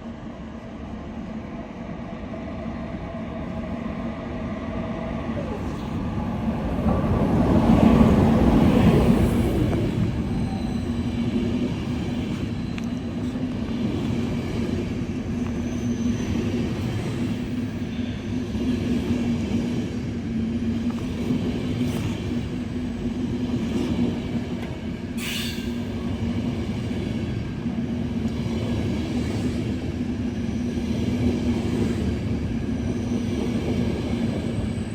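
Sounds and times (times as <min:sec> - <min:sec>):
train running: 0:00.0 - 0:34.9.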